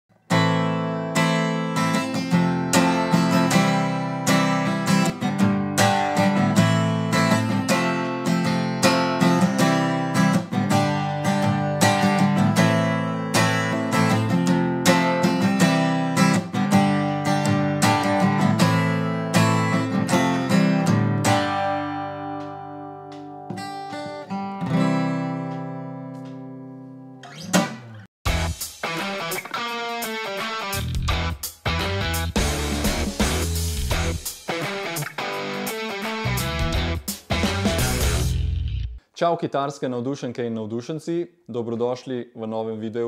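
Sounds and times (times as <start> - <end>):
acoustic guitar strumming: 0.3 - 38.7.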